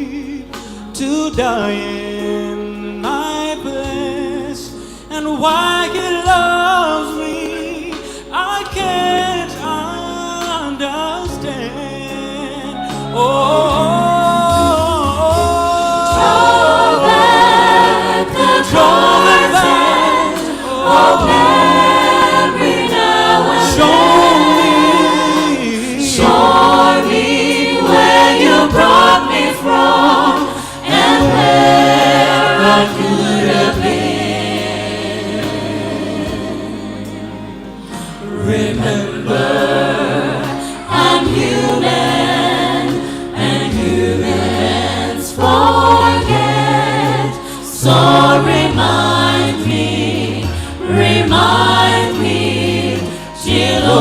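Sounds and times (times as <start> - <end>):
gospel singing voices: 0.0 - 54.0.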